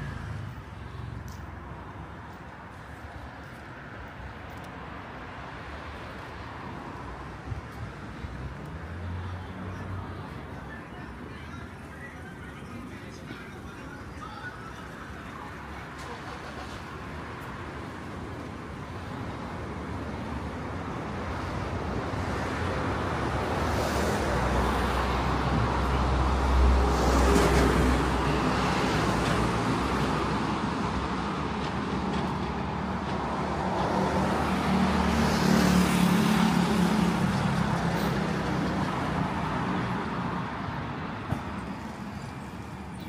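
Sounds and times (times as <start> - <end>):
road traffic passing: 0.0 - 43.0.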